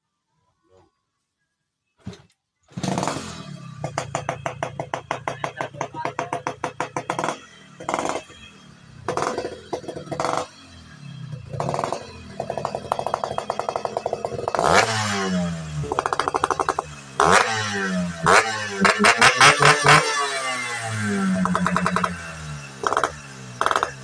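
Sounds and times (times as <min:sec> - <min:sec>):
two-stroke motorcycle engine revving: 0:02.7 - 0:24.0.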